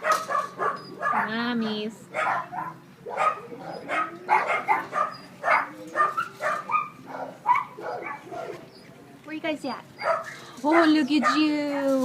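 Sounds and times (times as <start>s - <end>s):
dogs barking: 0.0s - 8.8s, 10.0s - 11.7s.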